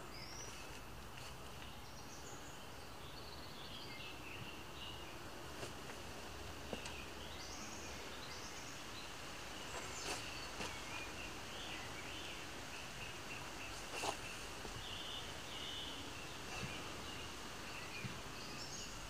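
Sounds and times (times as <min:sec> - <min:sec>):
birds chirping: 0:00.0 - 0:19.0
outdoor hiss: 0:00.0 - 0:19.0.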